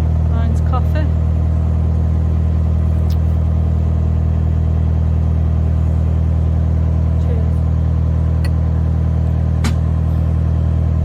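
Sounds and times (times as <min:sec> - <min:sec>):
boat diesel engine humming: 0:00.0 - 0:11.0.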